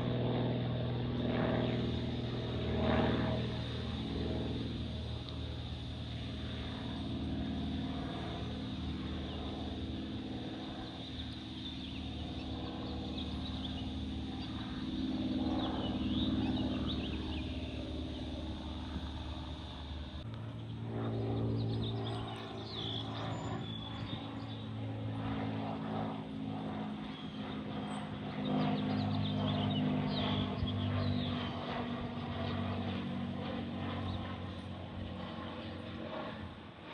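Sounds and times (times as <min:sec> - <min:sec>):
propeller aircraft engine drone: 0:00.0 - 0:36.9.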